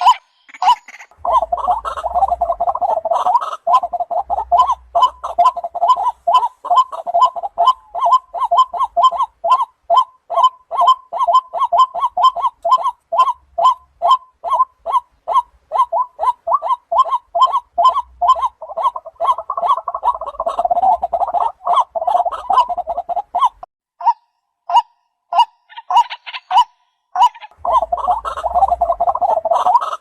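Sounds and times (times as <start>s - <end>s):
waterhen croaking calls: 0.0s - 30.0s.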